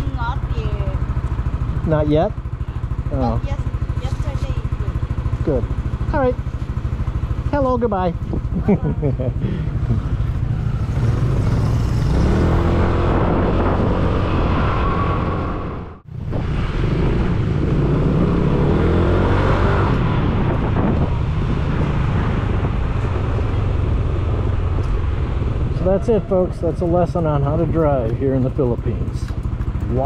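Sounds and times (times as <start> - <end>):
heavy wind rumble: 0.0 - 30.0
motor scooter engine accelerating: 0.0 - 30.0.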